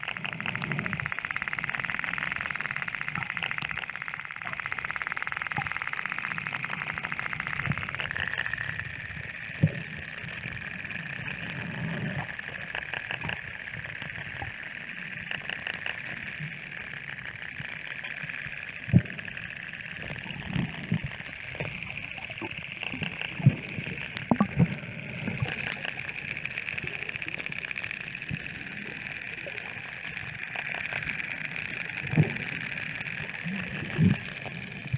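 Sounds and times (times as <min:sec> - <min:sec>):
dolphin clicks and buzzes: 0:00.0 - 0:34.9.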